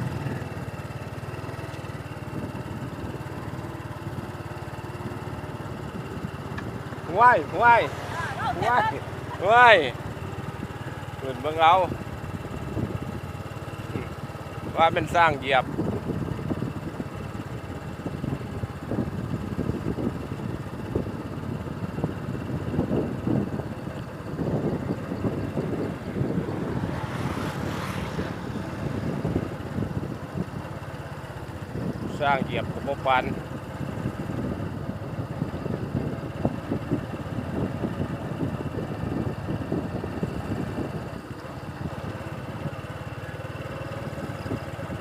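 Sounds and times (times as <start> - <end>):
vehicle engine rumbling: 0.0 - 45.0
wind buffeting microphone: 0.0 - 45.0.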